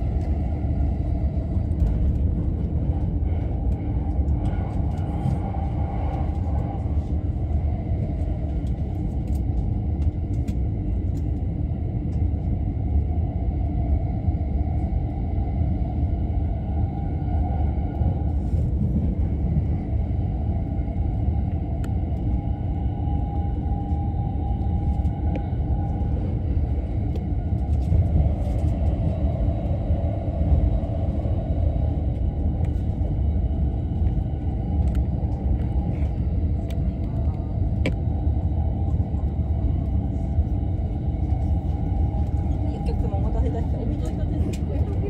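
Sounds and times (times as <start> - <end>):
passing train: 0.0 - 45.0
train wheels rumbling on track: 0.0 - 45.0.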